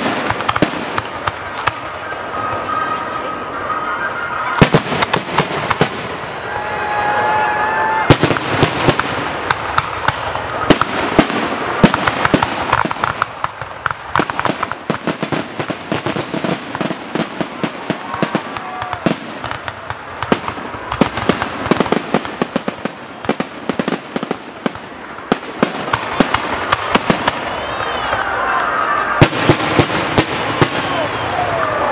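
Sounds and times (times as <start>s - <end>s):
fireworks bursting with sharp bangs: 0.0s - 31.9s
fireworks crackle: 0.0s - 31.9s.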